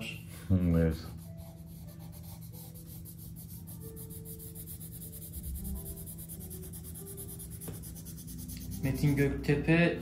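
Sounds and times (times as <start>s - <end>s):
pencil scratching on paper: 0.9s - 9.4s.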